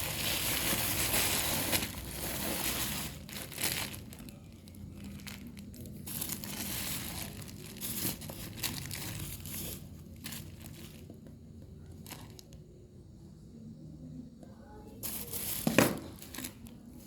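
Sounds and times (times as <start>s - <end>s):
packaging rustling: 0.0s - 12.5s, 15.0s - 16.8s.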